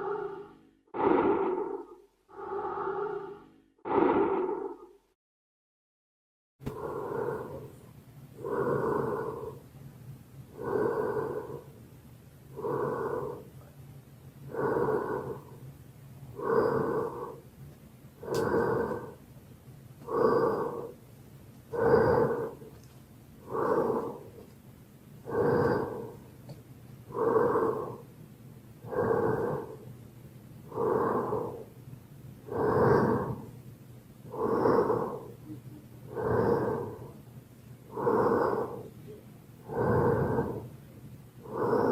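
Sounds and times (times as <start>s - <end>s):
slow heavy breathing: 0.0s - 5.2s, 6.6s - 9.8s, 10.5s - 13.8s, 14.4s - 19.3s, 20.0s - 24.6s, 25.2s - 28.2s, 28.8s - 41.9s
faint low hum: 6.6s - 41.9s.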